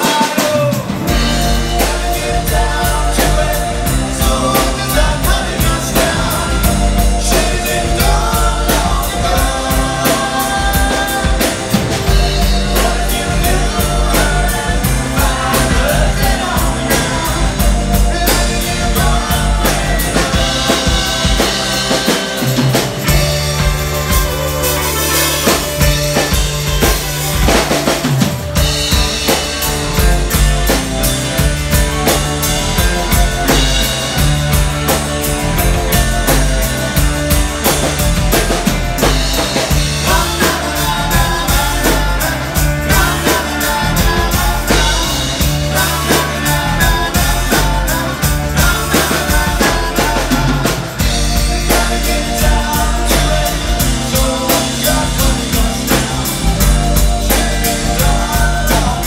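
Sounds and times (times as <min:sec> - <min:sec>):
bass and electric guitars: 0:00.0 - 0:59.0
drum kit steady beat: 0:00.0 - 0:59.0.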